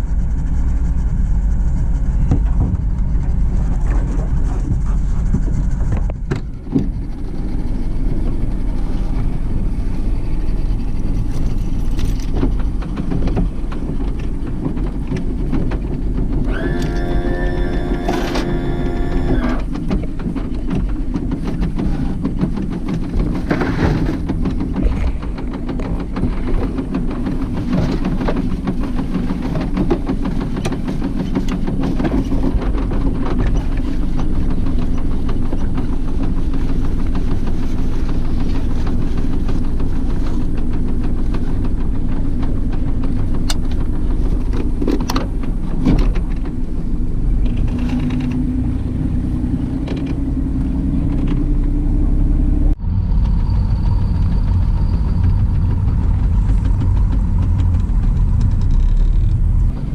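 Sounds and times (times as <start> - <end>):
boat motor running: 0.0 - 59.9.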